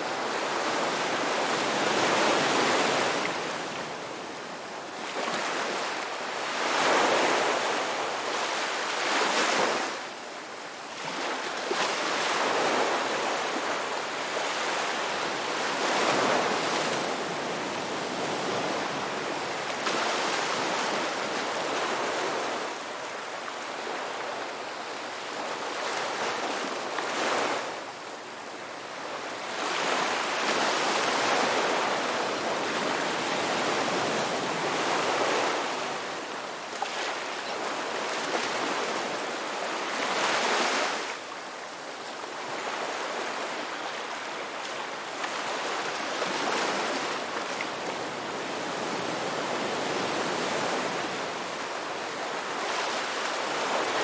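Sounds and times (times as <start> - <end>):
sea waves breaking on shore: 5.0 - 10.1, 10.9 - 27.8, 28.9 - 54.0.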